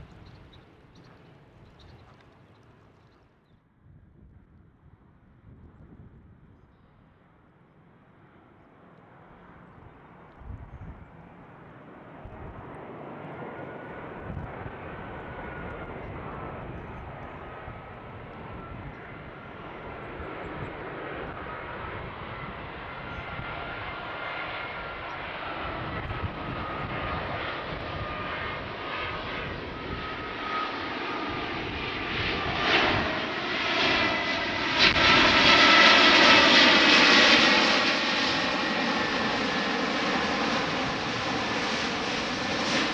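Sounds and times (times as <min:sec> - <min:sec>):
jet airliner engines passing: 0:00.0 - 0:03.2, 0:06.4 - 0:42.9.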